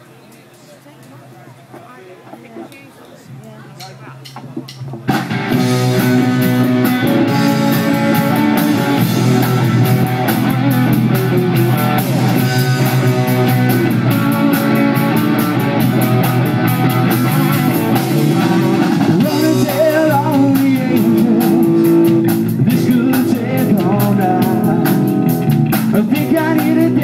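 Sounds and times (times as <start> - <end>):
electric guitars: 0.0 - 27.0
bass guitar: 3.3 - 27.0
drum kit: 3.8 - 27.0.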